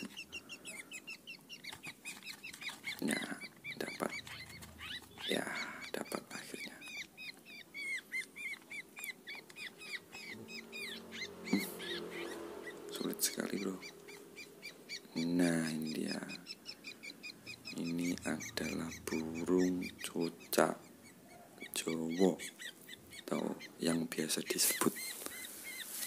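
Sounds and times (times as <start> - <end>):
small bird chirping rapidly: 0.0 - 26.0.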